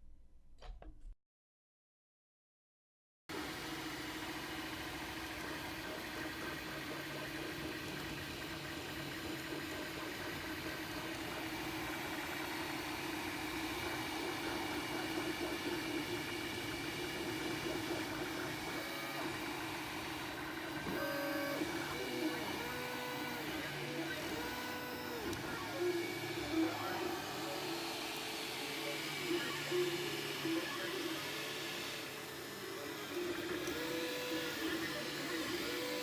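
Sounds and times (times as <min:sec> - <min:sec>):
printer stepper motors humming: 0:03.3 - 0:36.0
motors whining: 0:03.6 - 0:36.0.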